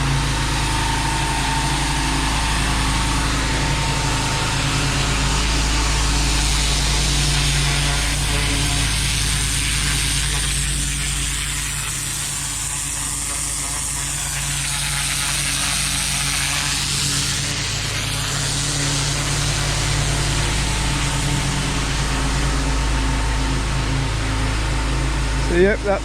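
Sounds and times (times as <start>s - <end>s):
pressure washer engine running: 0.0s - 26.0s.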